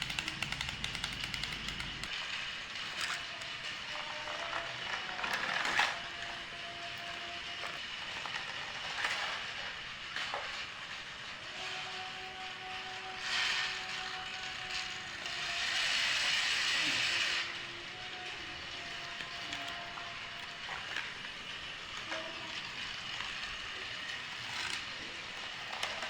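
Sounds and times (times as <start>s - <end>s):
toy electric motor whining: 0.0s - 26.0s.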